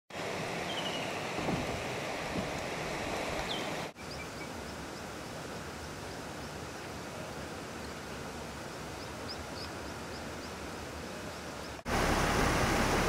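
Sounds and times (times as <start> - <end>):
floodwater rushing: 0.1 - 13.0.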